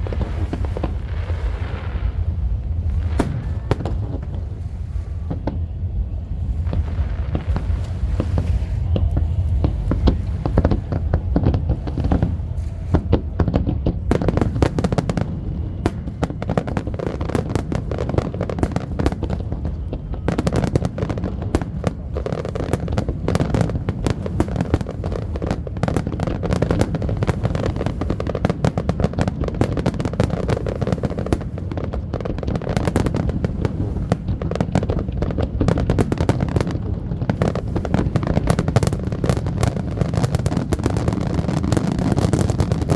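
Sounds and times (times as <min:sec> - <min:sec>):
firework bursts crackling: 0:00.0 - 0:42.9
low booms of firework shells: 0:00.0 - 0:42.9.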